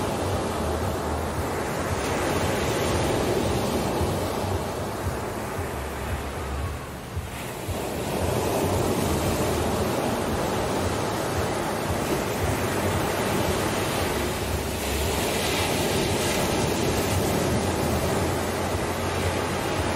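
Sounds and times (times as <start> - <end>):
waves washing onto beach: 0.0 - 19.9.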